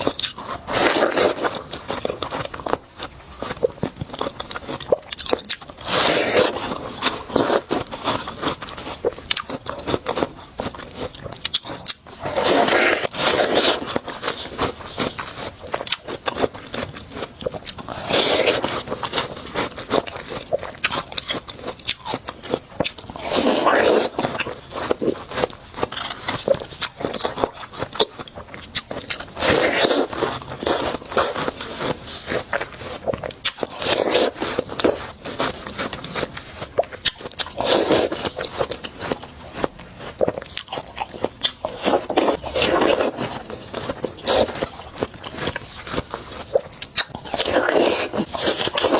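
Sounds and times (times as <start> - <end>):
wet chewing clicks and smacks: 0.0 - 12.3, 13.0 - 48.9
crunchy watermelon bite: 0.0 - 48.9.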